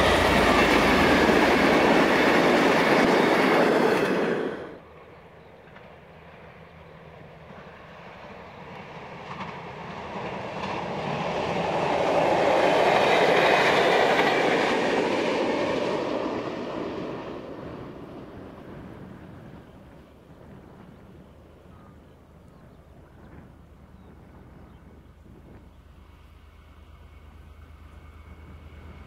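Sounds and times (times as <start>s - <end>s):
diesel train passing: 0.0s - 29.0s.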